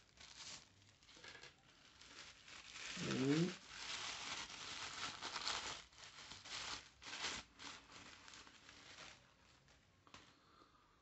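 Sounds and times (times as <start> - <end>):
paper crumpling and crinkling: 0.0 - 9.9.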